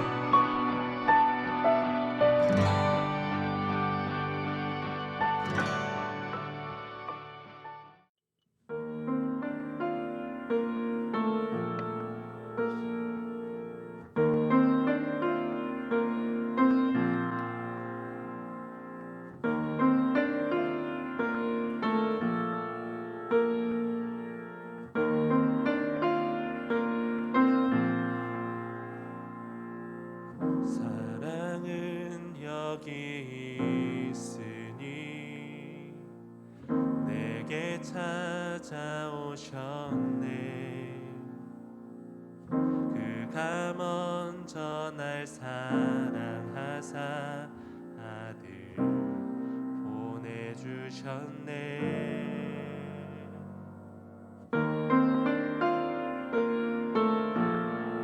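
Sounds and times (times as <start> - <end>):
piano playing slow chords: 0.0 - 8.0, 8.7 - 58.0.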